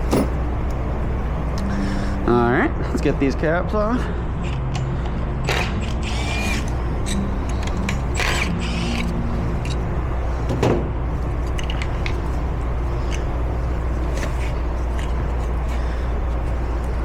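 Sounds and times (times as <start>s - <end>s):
low shop hum: 0.0s - 17.0s.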